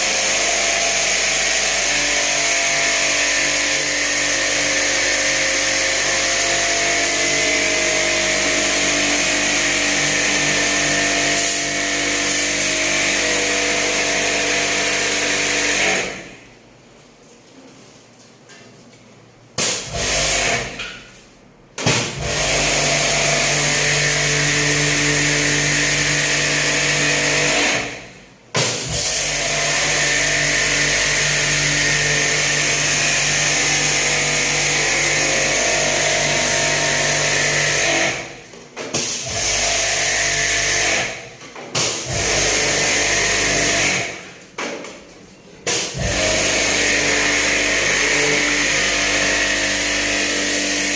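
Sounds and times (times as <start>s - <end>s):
pressure washer pump humming: 0.0s - 16.2s, 21.9s - 27.9s, 28.8s - 44.4s, 45.7s - 50.9s.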